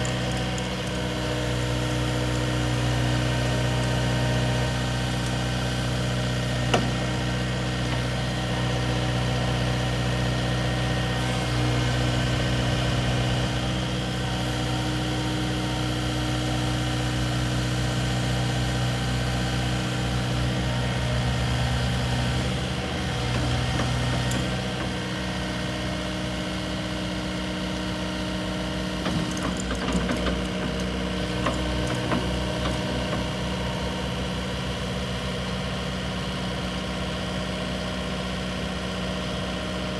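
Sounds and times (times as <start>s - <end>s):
excavator diesel engine idling: 0.0s - 39.9s.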